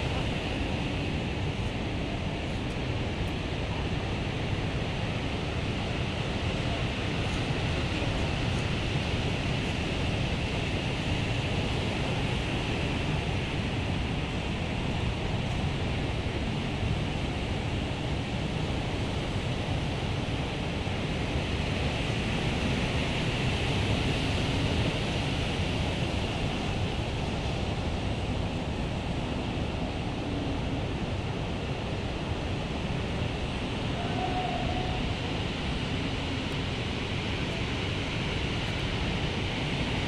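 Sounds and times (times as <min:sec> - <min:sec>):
waves breaking on a beach: 0:00.0 - 0:40.0
wind on microphone: 0:00.0 - 0:40.0.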